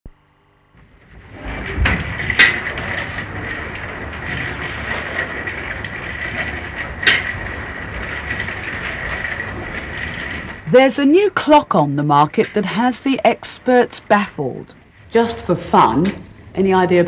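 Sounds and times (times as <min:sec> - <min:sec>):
clockwork whirring: 0:00.8 - 0:17.0.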